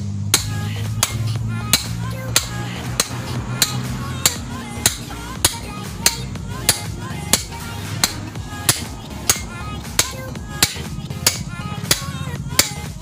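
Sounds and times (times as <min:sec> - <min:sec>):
hammer striking steel: 0:00.0 - 0:13.0.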